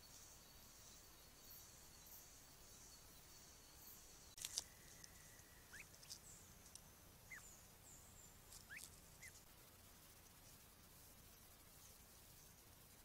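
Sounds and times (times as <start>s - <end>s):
forest ambience: 0.0s - 13.0s.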